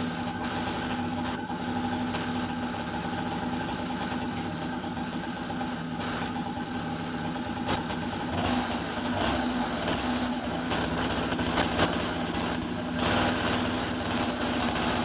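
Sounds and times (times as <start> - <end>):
small two-stroke engine idling: 0.0 - 15.0.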